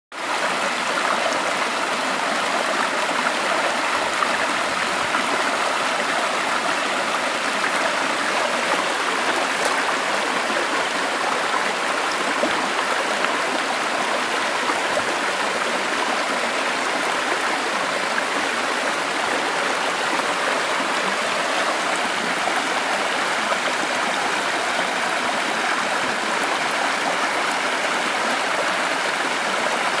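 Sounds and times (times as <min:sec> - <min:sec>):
stream rushing over stones: 0:00.2 - 0:30.0.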